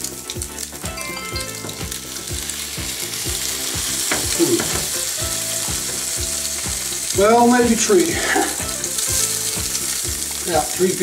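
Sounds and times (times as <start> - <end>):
butter sizzling in frying pan: 0.0 - 11.0.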